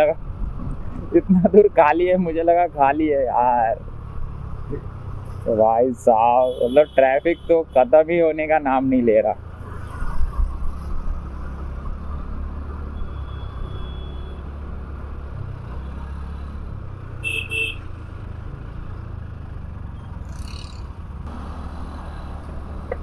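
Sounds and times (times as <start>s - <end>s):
motorcycle engine and road rumble: 0.0s - 23.0s.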